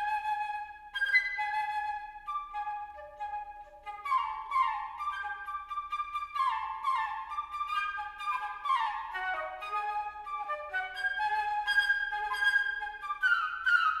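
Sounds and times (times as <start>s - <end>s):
solo flute playing: 0.0s - 14.0s.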